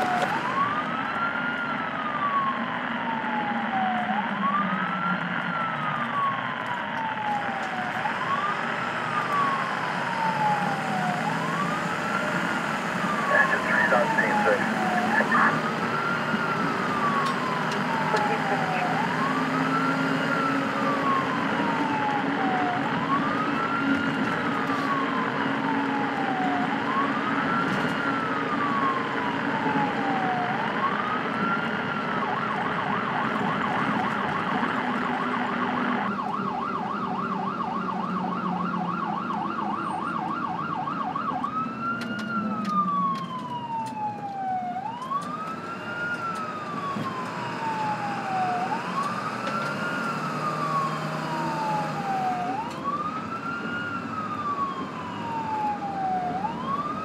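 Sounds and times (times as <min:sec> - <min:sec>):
fainter higher-pitched siren wail: 0:00.0 - 0:57.0
siren wailing and yelping: 0:00.0 - 0:57.0.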